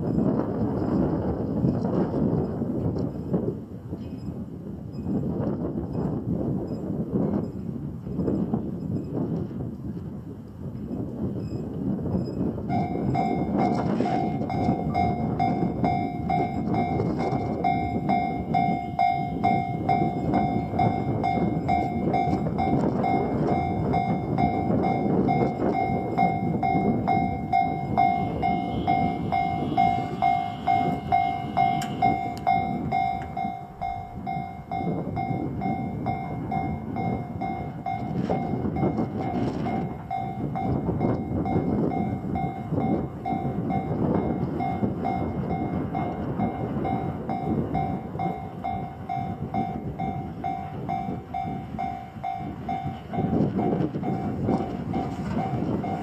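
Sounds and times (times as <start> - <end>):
crossing warning bell clanging: 0.0 - 10.0, 10.7 - 56.0
train wheels rumbling on rails: 0.0 - 56.0.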